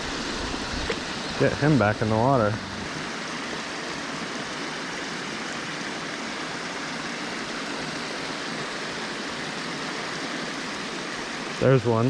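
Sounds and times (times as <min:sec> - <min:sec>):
water rushing over spillway: 0:00.0 - 0:12.0.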